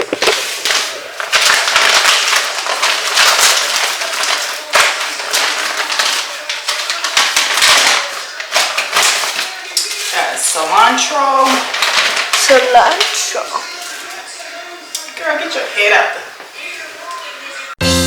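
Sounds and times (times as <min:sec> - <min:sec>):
packaging crinkling and rustling: 0:00.0 - 0:15.6.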